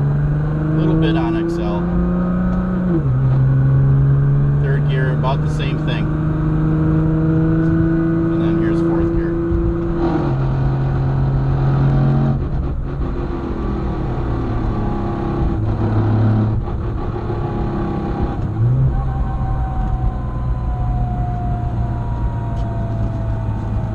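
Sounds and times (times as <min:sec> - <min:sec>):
car engine from inside: 0:00.0 - 0:23.9.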